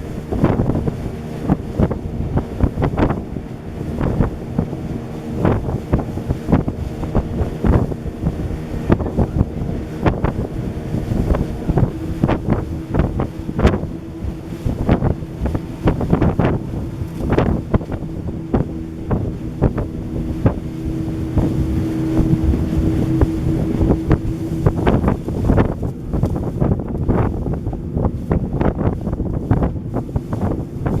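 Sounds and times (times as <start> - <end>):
motorboat engine running: 0.0 - 31.0
wind buffeting microphone: 0.0 - 31.0.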